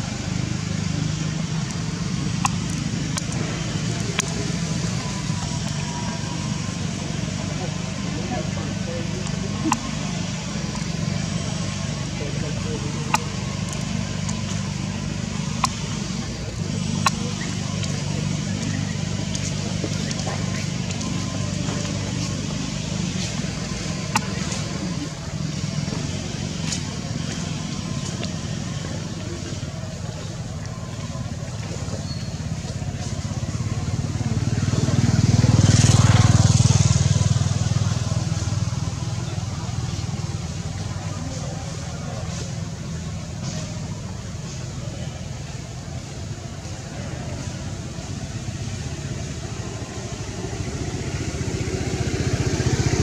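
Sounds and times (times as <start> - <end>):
vehicle engine passing by: 0.0 - 53.0.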